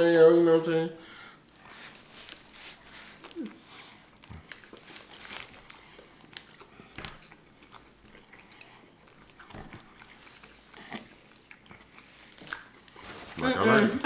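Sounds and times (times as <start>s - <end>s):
people chewing sandwiches: 1.0s - 14.0s.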